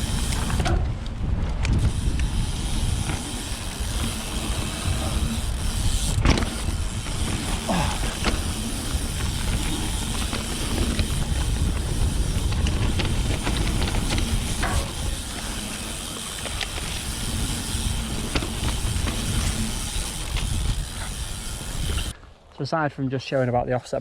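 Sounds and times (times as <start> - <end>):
wind on microphone: 0.0 - 22.2
bike clicks and rattles: 0.0 - 22.3
bike tyre noise: 0.0 - 22.5.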